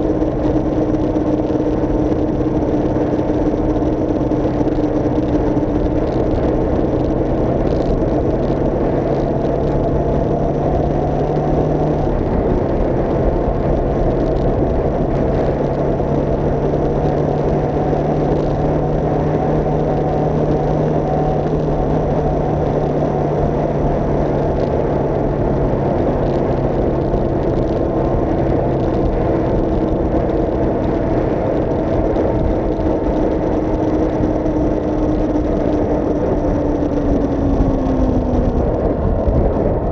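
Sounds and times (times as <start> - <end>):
car engine running: 0.0 - 39.9
tyre and wind noise: 0.0 - 39.9.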